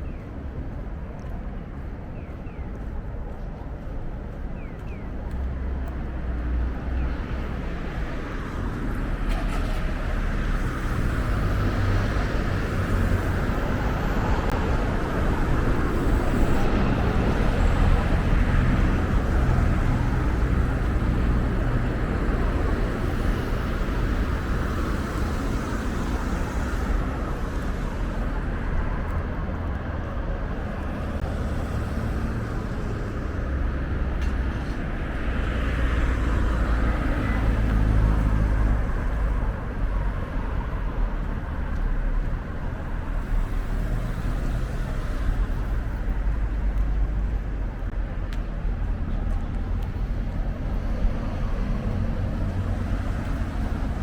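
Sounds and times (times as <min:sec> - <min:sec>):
cars passing: 0:00.0 - 0:54.0
low traffic rumble: 0:00.0 - 0:54.0.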